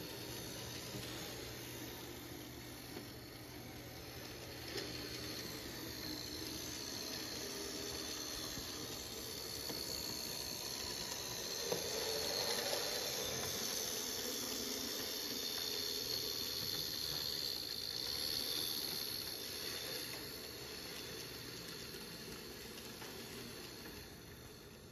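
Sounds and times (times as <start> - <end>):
model train whine and hiss: 0.0 - 24.9.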